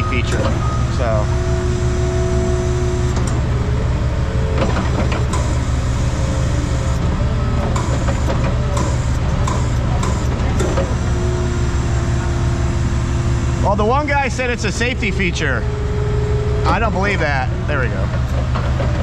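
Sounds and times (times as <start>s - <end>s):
steady whine: 0.0s - 18.8s
engine drone: 0.0s - 19.0s.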